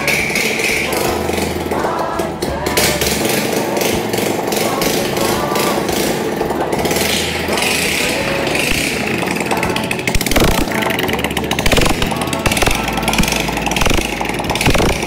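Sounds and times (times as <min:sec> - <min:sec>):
small motorcycle engine running: 0:00.0 - 0:15.0.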